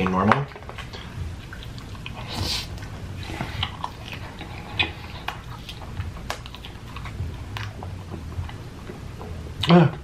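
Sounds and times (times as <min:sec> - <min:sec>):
person chewing food: 0:00.5 - 0:09.8.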